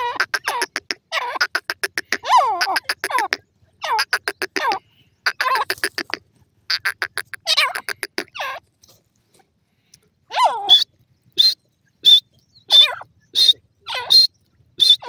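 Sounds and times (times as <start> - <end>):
francolin calling: 0.0 - 8.6, 10.3 - 15.0.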